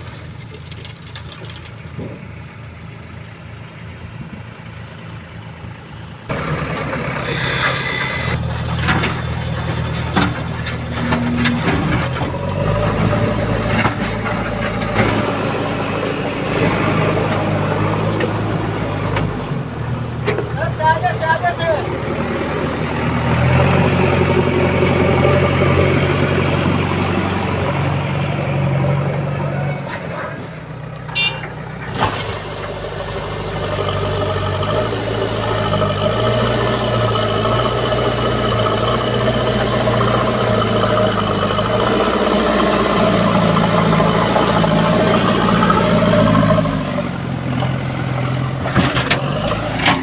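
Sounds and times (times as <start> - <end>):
diesel engines running: 0.0 - 50.0.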